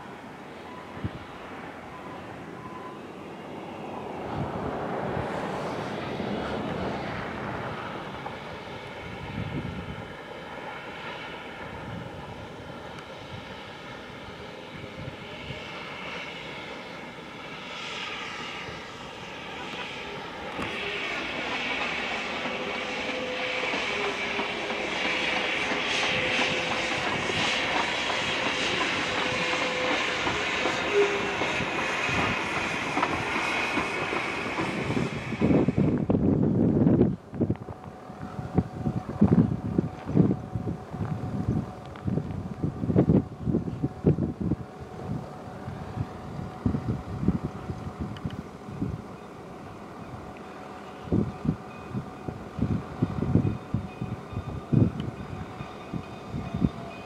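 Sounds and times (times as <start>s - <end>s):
rushing noise: 0.0s - 57.0s
steam train running: 0.0s - 57.0s.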